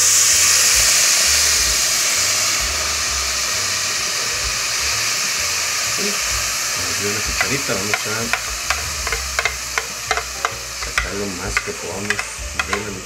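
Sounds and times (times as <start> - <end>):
sauce sizzling in hot pot: 0.0 - 13.0.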